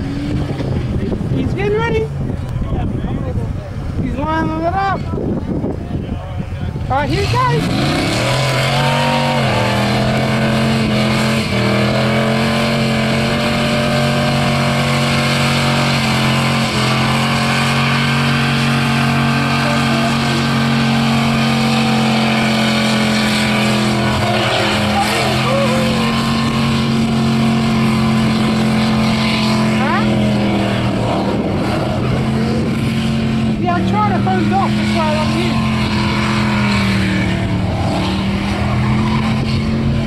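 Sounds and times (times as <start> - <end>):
car engine at high revs: 0.0 - 40.0.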